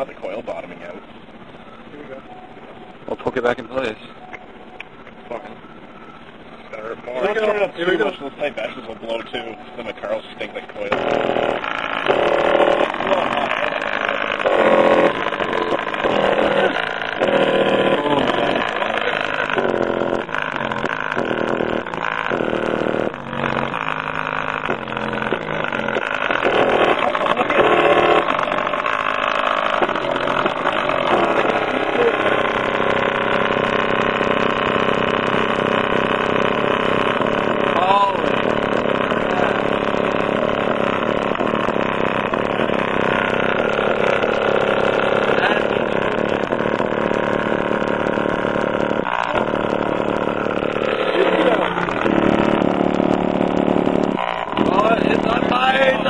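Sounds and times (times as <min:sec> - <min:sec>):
distorted subwoofer bass notes: 0:00.0 - 0:56.0.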